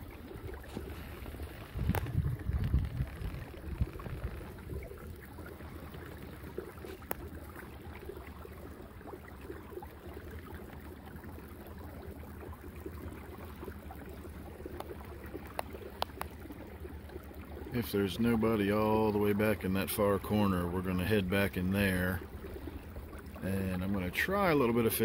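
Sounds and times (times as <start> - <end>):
water washing along hull: 0.0 - 25.0.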